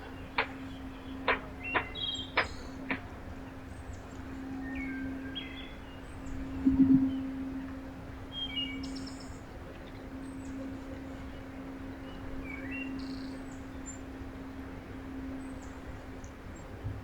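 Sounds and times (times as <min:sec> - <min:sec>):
songbirds chirping: 0:00.0 - 0:16.8
steady low hum: 0:00.0 - 0:17.0.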